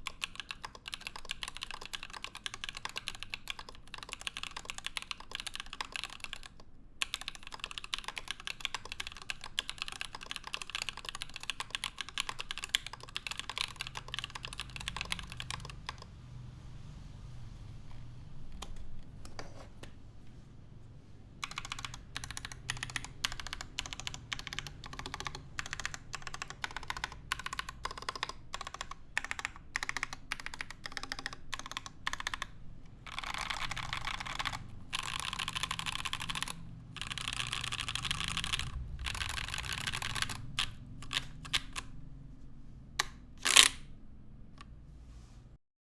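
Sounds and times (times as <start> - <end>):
typing on mechanical keyboard: 0.0 - 16.2, 17.7 - 20.0, 21.4 - 42.2, 43.0 - 44.8.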